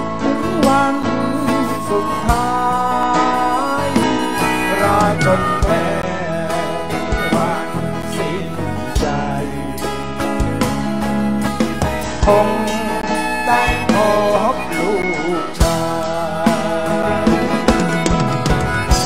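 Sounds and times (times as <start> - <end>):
live band playing instrumental: 0.0 - 19.0.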